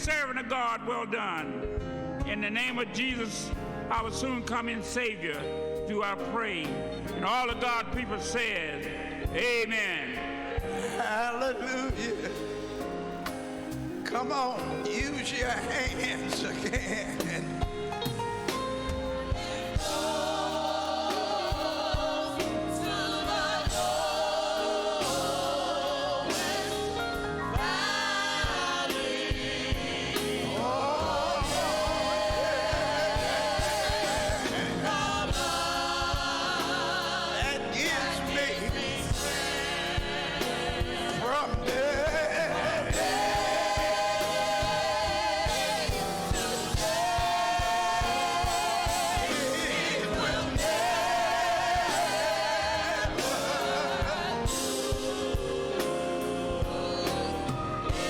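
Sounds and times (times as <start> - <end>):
gospel choir singing with band: 0.0 - 58.0.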